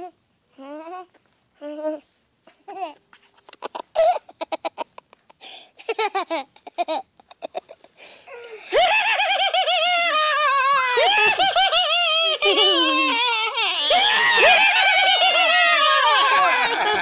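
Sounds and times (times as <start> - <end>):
person laughing: 3.2 - 17.0.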